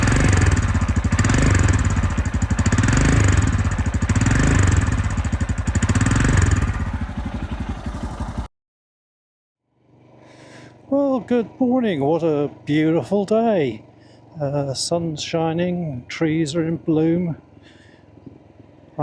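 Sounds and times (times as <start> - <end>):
motorcycle engine running: 0.0 - 8.5, 9.7 - 19.0.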